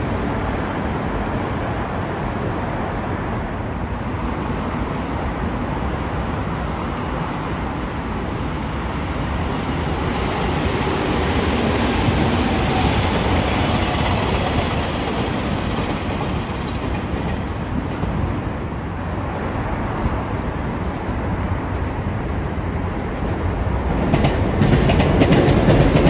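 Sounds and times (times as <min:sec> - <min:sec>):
train wheels on rails passing: 0:00.0 - 0:26.0.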